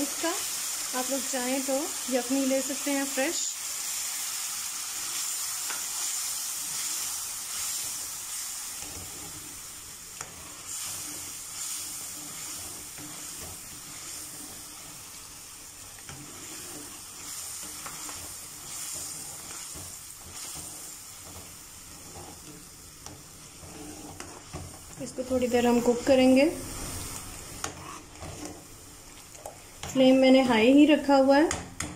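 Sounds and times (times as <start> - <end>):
sauce sizzling in a pan: 0.0 - 31.5.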